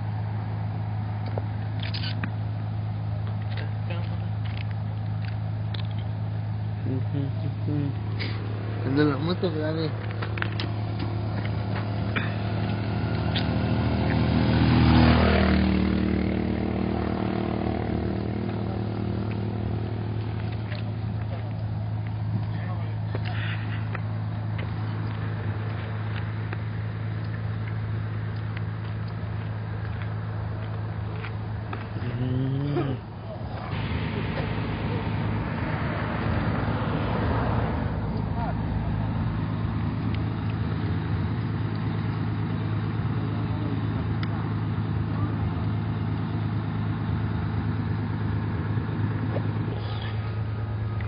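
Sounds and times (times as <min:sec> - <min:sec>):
bus engine idling: 0:00.0 - 0:51.0.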